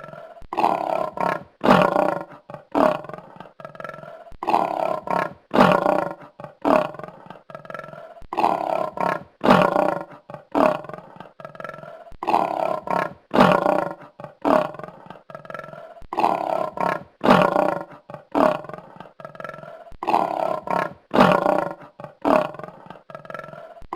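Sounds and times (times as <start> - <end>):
lioness roaring: 0.0 - 23.9.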